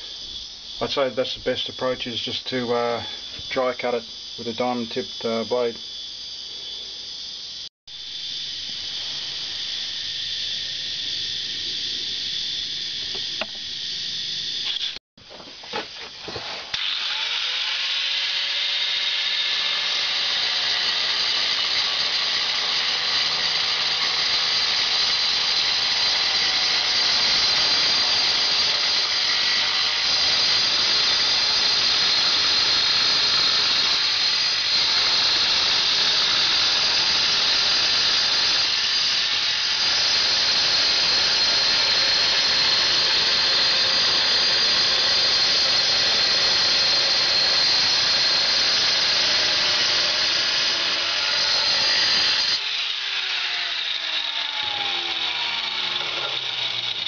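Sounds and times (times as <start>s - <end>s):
angle grinder cutting tile: 10.6s - 15.0s, 15.7s - 57.0s.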